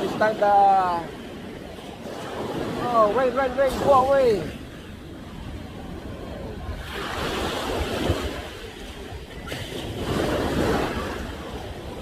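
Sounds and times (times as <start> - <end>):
ocean waves breaking on shore: 0.0 - 12.0
wind buffeting microphone: 0.0 - 12.0.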